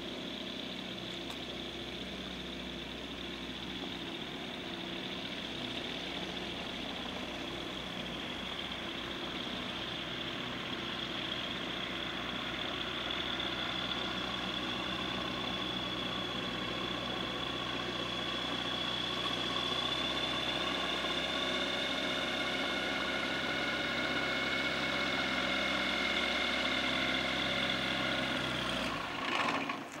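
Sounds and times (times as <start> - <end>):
light aircraft engine running: 0.0 - 30.0.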